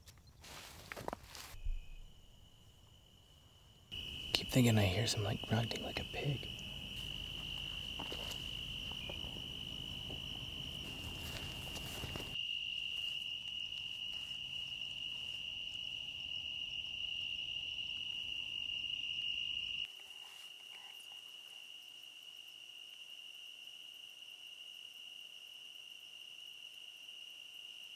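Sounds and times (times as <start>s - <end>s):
insect chorus high trill: 1.6s - 27.9s.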